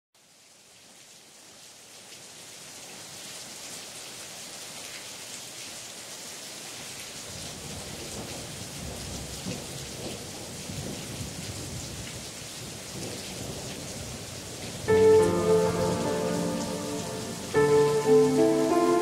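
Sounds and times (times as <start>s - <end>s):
rain falling: 0.2s - 19.0s.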